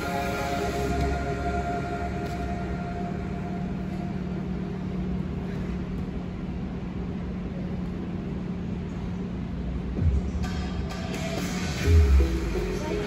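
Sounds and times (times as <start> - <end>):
low droning background music: 0.0 - 13.0.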